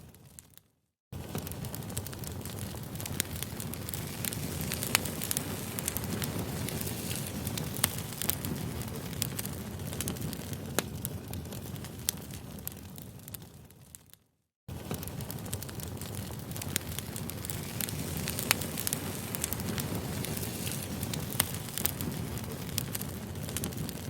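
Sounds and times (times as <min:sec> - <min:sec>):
sharp pops of burning wood: 0:01.2 - 0:14.1, 0:14.7 - 0:24.0
campfire crackling: 0:01.2 - 0:24.0.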